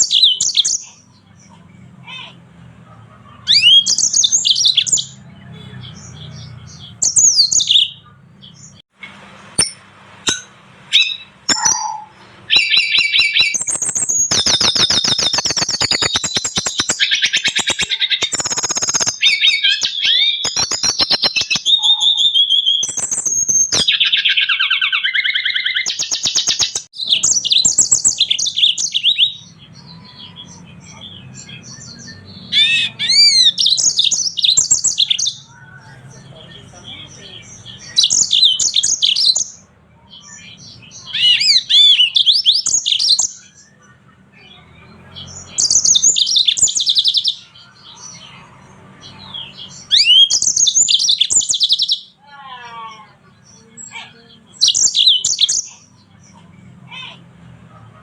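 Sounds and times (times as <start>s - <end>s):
finches singing: 0.0s - 9.2s, 10.3s - 58.0s.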